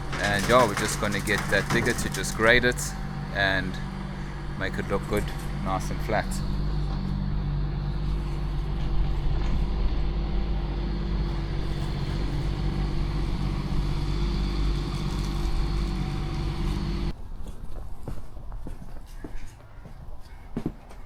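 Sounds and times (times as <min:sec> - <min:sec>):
digger engine running: 0:00.0 - 0:17.1.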